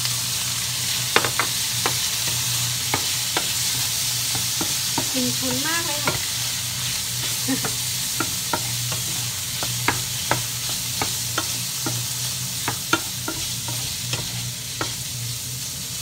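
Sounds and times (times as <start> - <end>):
cooker hood fan humming: 0.0 - 16.0
seafood sizzling in a frying pan: 0.0 - 16.0
wooden spatula scraping a pan: 1.2 - 15.2.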